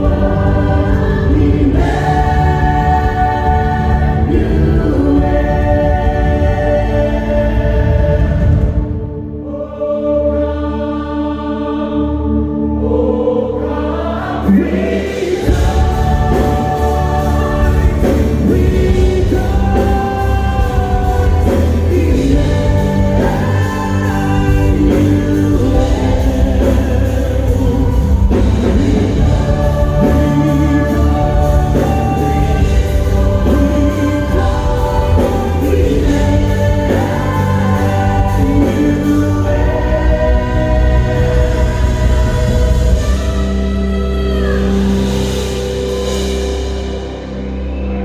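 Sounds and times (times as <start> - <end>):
band accompaniment with bass: 0.0 - 48.0
choir singing gospel song: 0.0 - 48.0.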